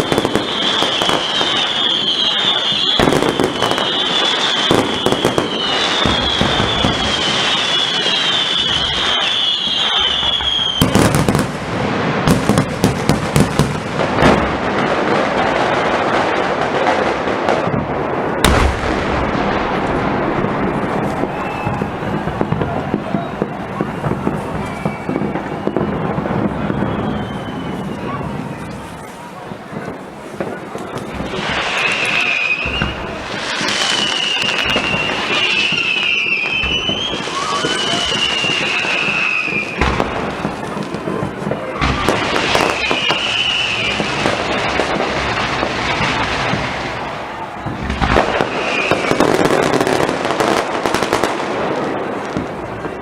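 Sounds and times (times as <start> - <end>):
fireworks crackling: 0.0 - 53.0
sharp firework bangs: 0.0 - 53.0
whistling firework: 0.0 - 53.0.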